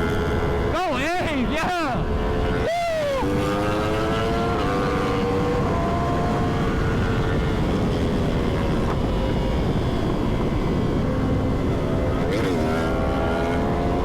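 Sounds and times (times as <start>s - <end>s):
wind rush on microphone: 2.0s - 14.0s.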